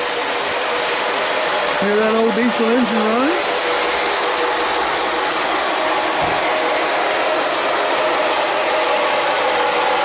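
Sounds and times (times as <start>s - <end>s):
model train motors whirring: 0.0s - 10.0s.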